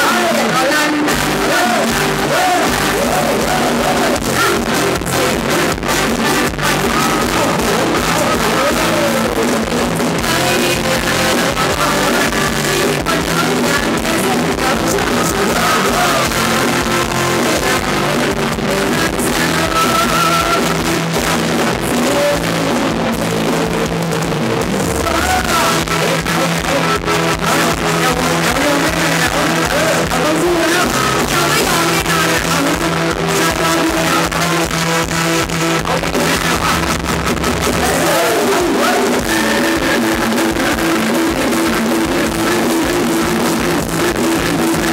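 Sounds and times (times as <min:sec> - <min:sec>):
live band playing dance music: 0:00.0 - 0:44.9
person singing: 0:00.0 - 0:44.9
steady drum beat: 0:01.1 - 0:44.9.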